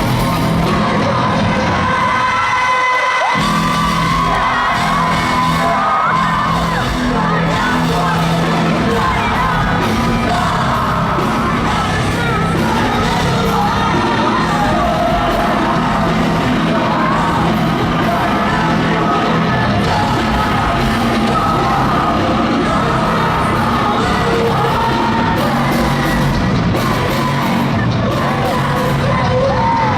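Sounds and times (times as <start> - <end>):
rock band playing live: 0.0 - 29.9
sung and yelled vocals: 0.0 - 29.9.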